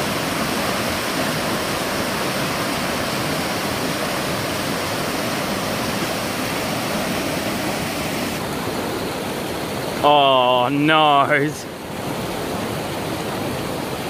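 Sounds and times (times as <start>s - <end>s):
whitewater rapids rushing: 0.0s - 14.0s.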